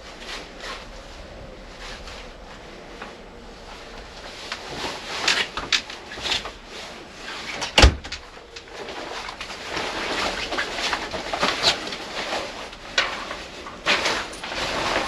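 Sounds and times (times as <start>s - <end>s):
rustling and scraping handling: 0.0s - 15.0s.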